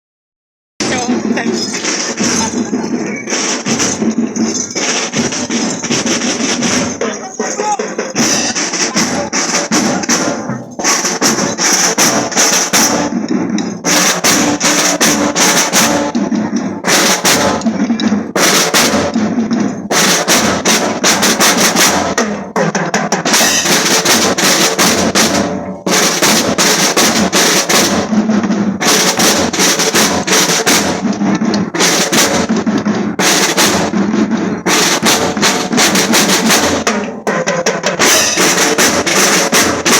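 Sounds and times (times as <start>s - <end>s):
marching drum band: 0.8s - 39.9s
snare drum rolls: 0.8s - 39.9s.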